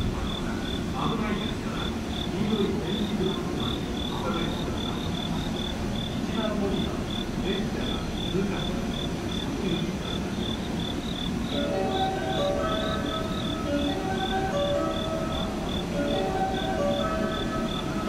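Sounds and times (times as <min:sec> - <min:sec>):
cricket chirping: 0:00.2 - 0:18.0.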